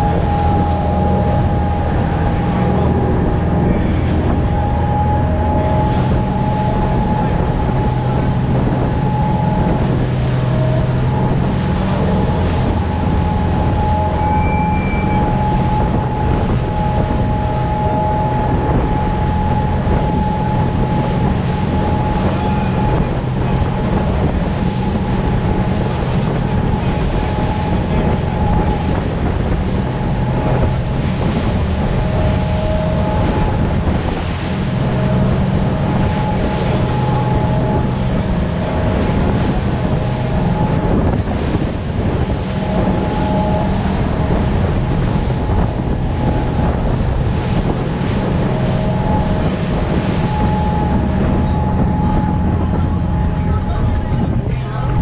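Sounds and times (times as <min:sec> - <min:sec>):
motorboat engine whine: 0:00.0 - 0:55.0
wind buffeting microphone: 0:00.0 - 0:55.0.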